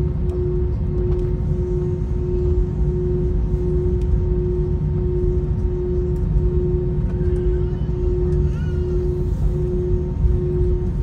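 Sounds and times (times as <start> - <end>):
aircraft cabin low rumble: 0.0 - 11.0
constant hum tone: 0.0 - 11.0.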